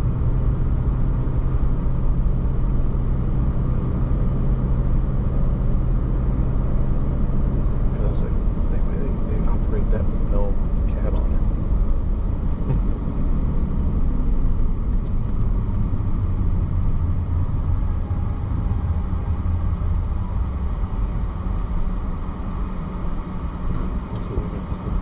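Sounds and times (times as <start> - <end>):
car road rumble from inside: 0.0 - 25.0.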